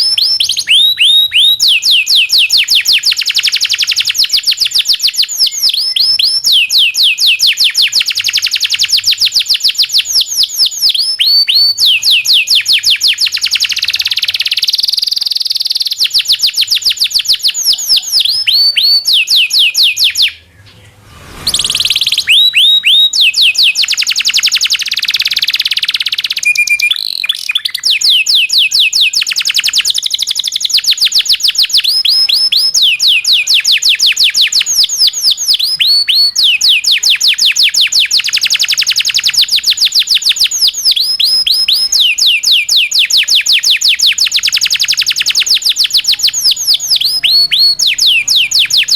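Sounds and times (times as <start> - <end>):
canary singing rolling trills: 0.0 - 48.9.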